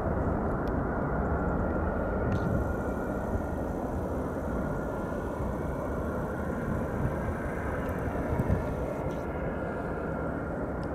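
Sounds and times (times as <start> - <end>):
jet airliner engines rumbling: 0.0 - 10.9.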